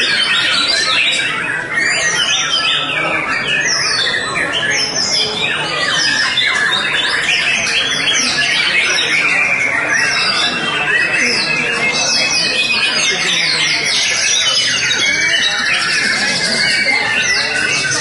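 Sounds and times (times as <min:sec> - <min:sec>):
birds singing fast whistles: 0:00.0 - 0:18.0.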